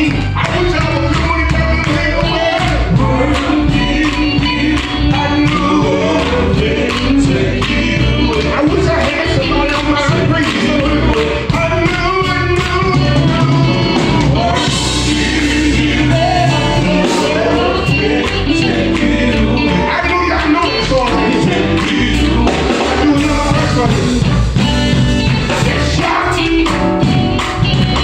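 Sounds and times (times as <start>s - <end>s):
gospel singing with instruments: 0.0s - 28.0s.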